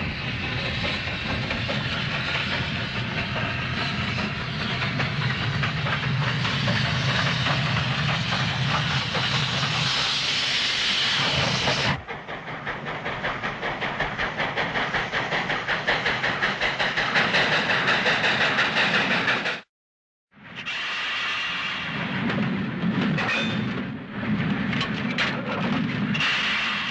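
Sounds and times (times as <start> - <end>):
steam locomotive chuffing: 0.0 - 19.7, 20.7 - 22.5, 26.1 - 26.9
steam train hissing and rumbling: 0.0 - 19.7, 20.5 - 24.7, 26.0 - 26.9.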